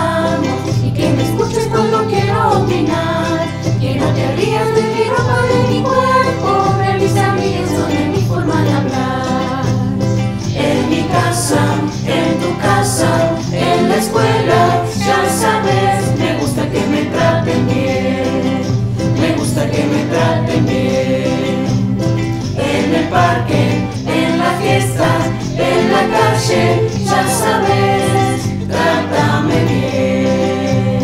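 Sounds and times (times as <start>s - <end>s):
youth choir singing: 0.0s - 31.0s.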